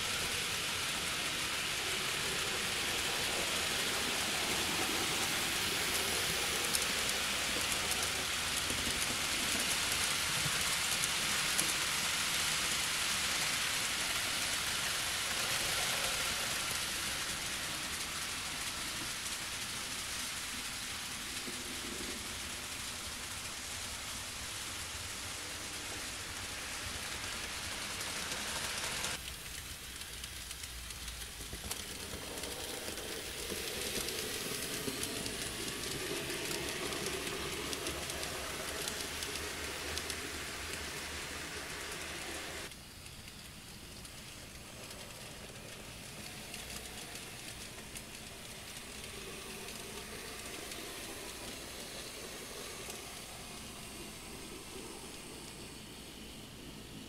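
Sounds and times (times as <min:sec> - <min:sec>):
model train wheels rattling on rail: 0:00.0 - 0:57.0.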